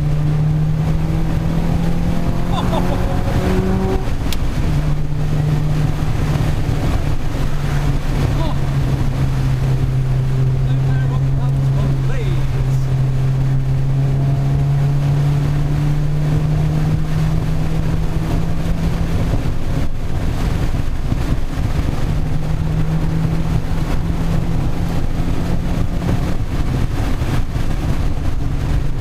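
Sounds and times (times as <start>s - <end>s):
car engine at steady revs: 0.0s - 29.0s
road noise: 0.0s - 29.0s
wind noise: 0.0s - 29.0s.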